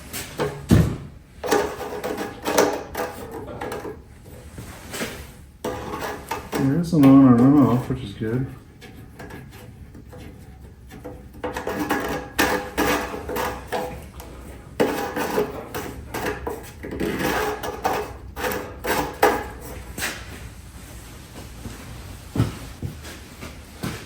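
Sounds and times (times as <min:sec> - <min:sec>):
parts clunking and scraping: 0:00.0 - 0:24.0.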